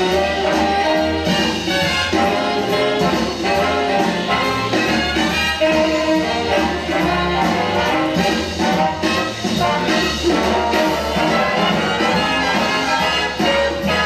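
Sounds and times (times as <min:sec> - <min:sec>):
bass: 0:00.0 - 0:14.0
brass section playing: 0:00.0 - 0:14.0.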